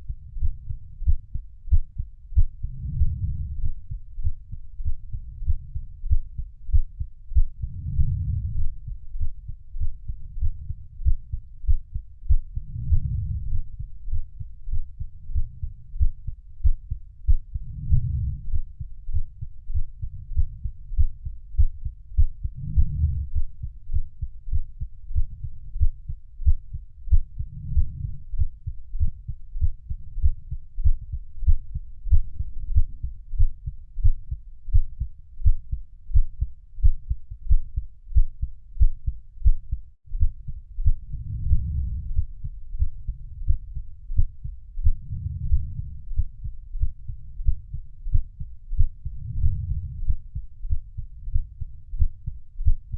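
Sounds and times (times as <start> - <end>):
heartbeat thuds: 0.0 - 52.9.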